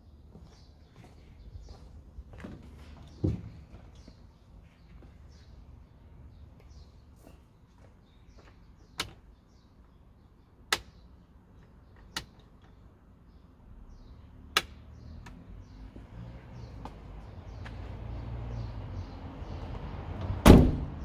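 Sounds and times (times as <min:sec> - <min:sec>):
faint birdsong: 0:00.0 - 0:20.4.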